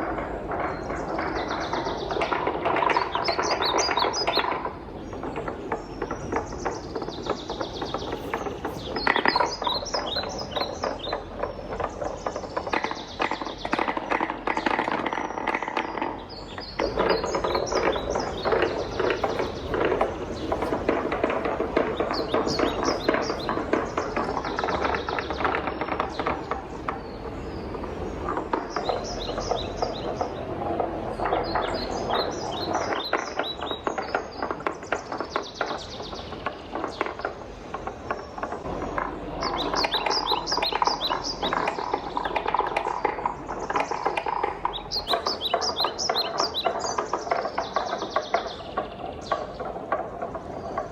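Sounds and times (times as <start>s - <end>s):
high bright ticks: 0.0s - 50.9s
wooden balls rattling down marble run: 0.0s - 50.9s.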